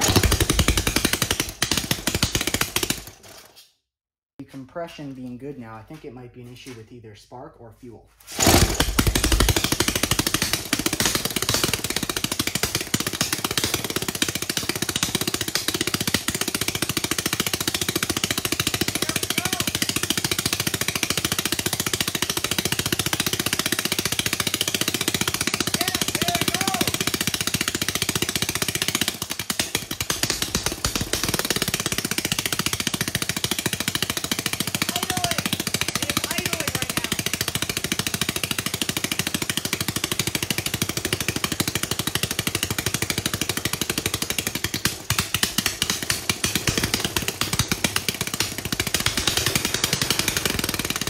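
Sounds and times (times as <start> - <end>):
small engine running fast: 0.0 - 3.4, 8.3 - 51.0.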